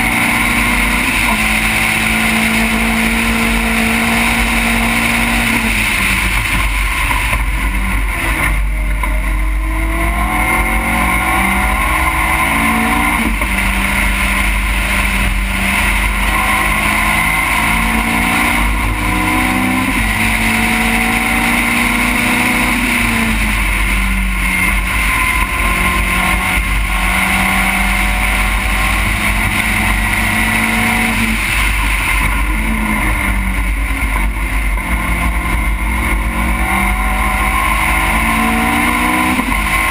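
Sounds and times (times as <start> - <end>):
race car engine revving: 0.0 - 39.9
road rumble: 0.0 - 39.9.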